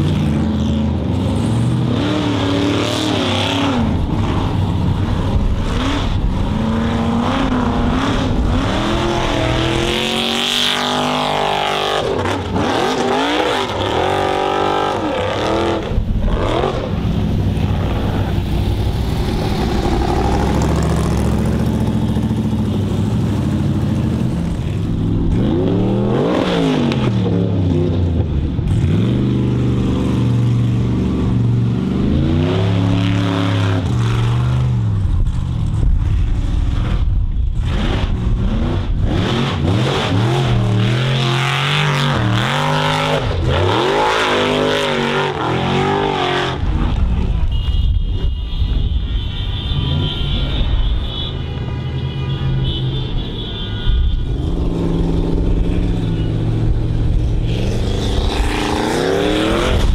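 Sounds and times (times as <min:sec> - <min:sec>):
buggy engines revving hard: 0:00.0 - 0:47.4, 0:54.2 - 0:59.9.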